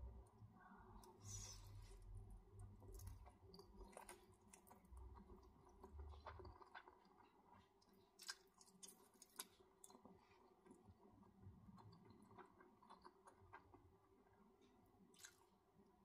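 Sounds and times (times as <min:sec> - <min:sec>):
close-miked chewing noodles: 0:00.2 - 0:15.7.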